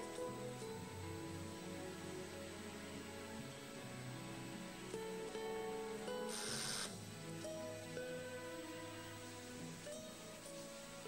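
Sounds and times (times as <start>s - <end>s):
slow melody of held notes: 0.0s - 11.0s.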